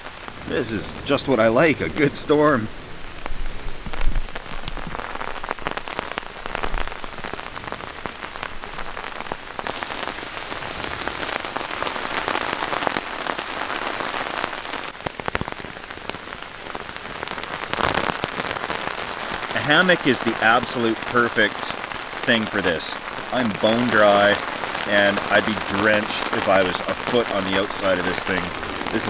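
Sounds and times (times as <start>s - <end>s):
heavy rain on taut fabric: 0.0s - 29.0s.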